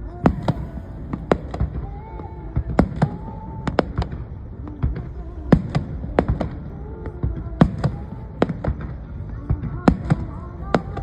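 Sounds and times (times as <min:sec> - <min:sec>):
fireworks bangs and crackling pops: 0:00.0 - 0:11.0
low rumble: 0:00.0 - 0:11.0.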